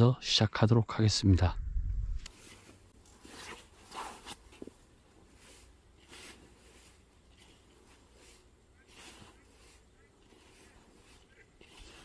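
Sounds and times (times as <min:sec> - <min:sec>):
rustles and scuffs: 0:02.2 - 0:12.0.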